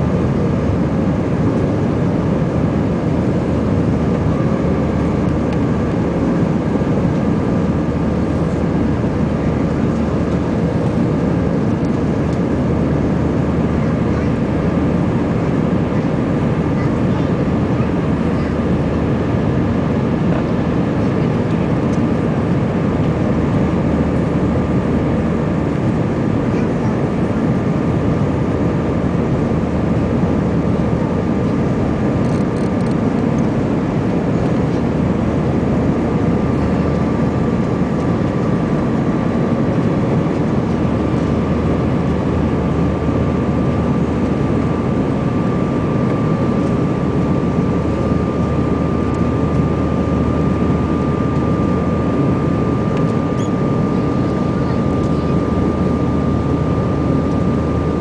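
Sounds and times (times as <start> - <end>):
airliner cabin roar: 0.0 - 58.0.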